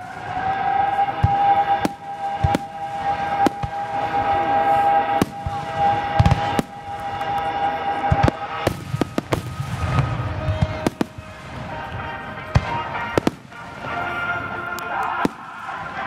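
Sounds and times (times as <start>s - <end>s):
fireworks bangs and booms: 0.0s - 14.4s.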